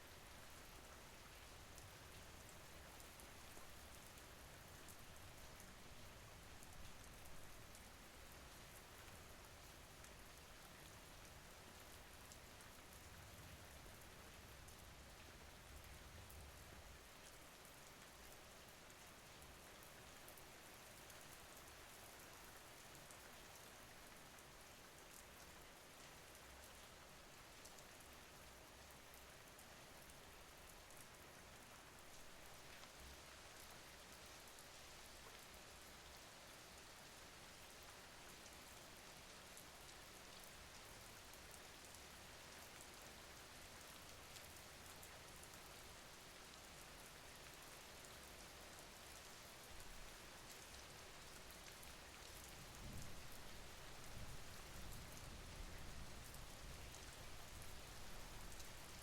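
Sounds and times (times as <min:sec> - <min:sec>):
soft rain: 0:00.0 - 0:59.0.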